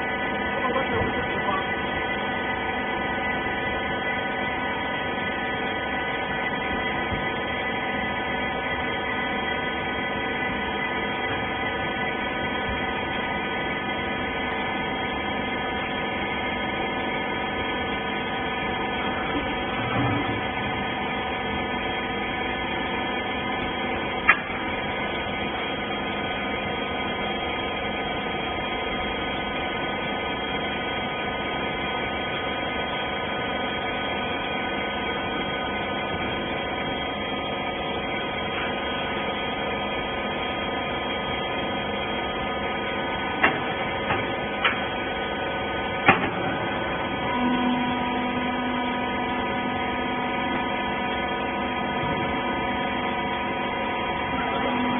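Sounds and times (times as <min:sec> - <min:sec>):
baler motor humming: 0:00.0 - 0:54.9
low machine tone: 0:00.0 - 0:54.9.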